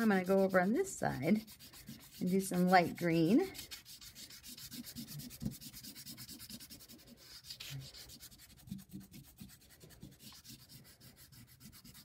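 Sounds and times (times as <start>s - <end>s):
chalk pastel scribbling on paper: 0.0s - 12.0s.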